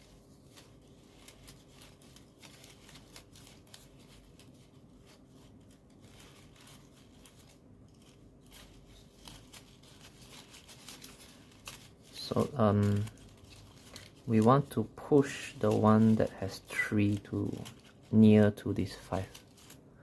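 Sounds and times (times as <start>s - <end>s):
paper rustling and clicking: 0.0s - 20.0s.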